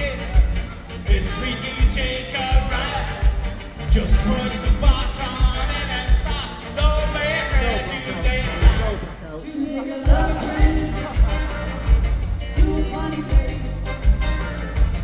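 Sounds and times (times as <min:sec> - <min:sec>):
lead vocal singing: 0:00.0 - 0:11.9, 0:12.5 - 0:14.2
horn section: 0:00.0 - 0:15.0
live soul band playing: 0:00.0 - 0:15.0.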